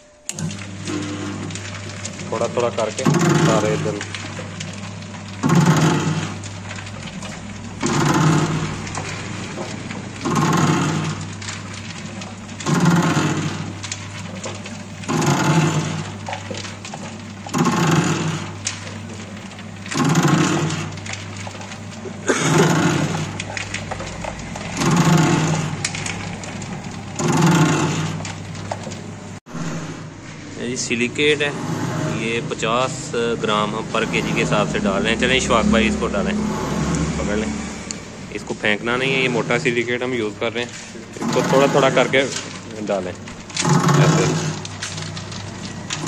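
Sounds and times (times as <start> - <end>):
mixer arm churning soap: 0.0 - 46.0
mixer motor hum: 0.0 - 46.0.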